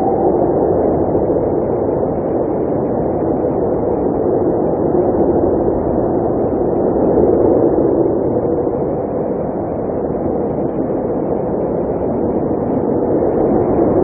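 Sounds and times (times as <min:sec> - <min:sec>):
blizzard wind rushing: 0:00.0 - 0:14.0.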